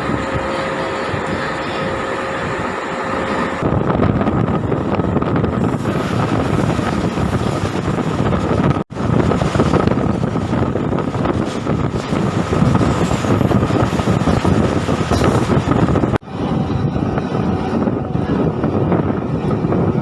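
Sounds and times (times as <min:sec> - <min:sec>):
electric train rumble: 0:00.0 - 0:20.0
rushing wind noise: 0:00.0 - 0:20.0.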